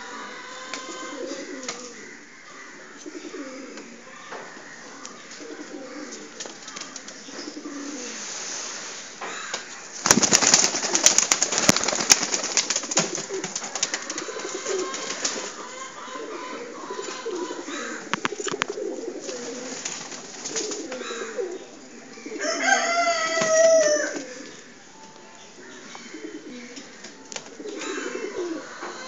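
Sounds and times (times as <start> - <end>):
pigeons cooing: 0.0 - 8.3, 9.3 - 24.8, 25.5 - 29.0.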